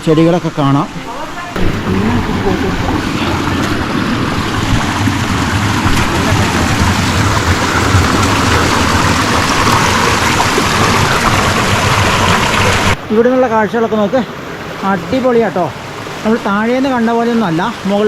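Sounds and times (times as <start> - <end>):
water rushing over rocks: 0.9 - 18.0.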